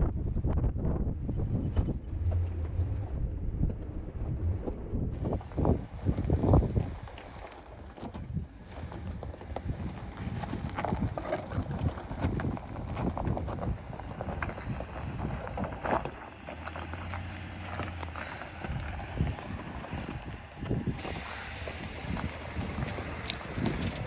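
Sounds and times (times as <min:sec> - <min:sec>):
engine and tyres rumbling: 0:00.0 - 0:24.0
wind on microphone: 0:00.0 - 0:24.0
truck knocks and rattles: 0:01.1 - 0:24.0.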